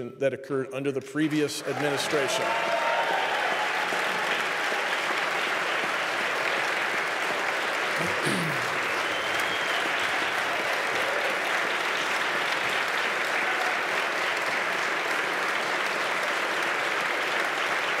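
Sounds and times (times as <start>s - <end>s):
crowd applauding: 1.2s - 18.0s.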